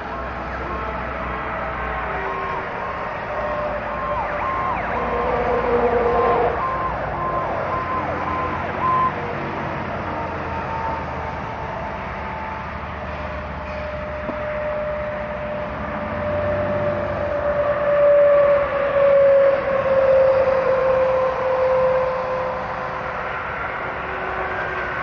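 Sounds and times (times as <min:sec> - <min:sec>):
emergency vehicle siren: 0:00.0 - 0:25.0
highway traffic noise: 0:00.0 - 0:25.0.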